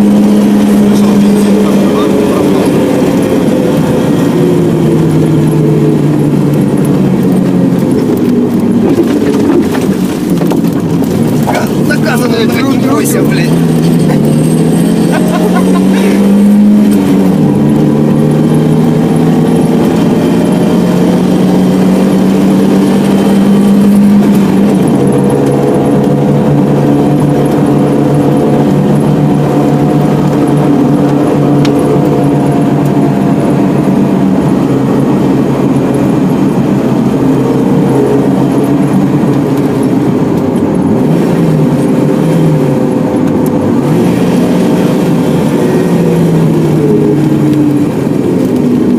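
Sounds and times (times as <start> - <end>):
car engine pulling hard: 0.0 - 48.9.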